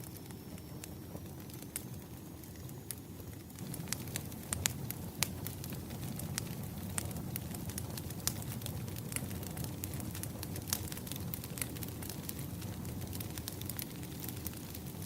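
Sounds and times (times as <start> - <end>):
logs crackling and popping: 0.0 - 15.0
low fire rumble: 0.0 - 15.0.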